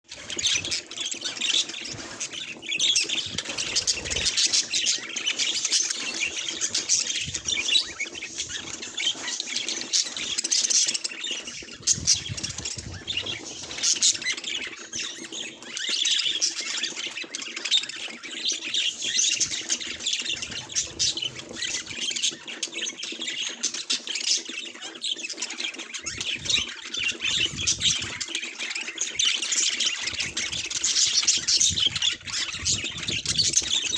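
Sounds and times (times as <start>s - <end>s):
budgerigars chattering and squawking: 0.1s - 33.9s.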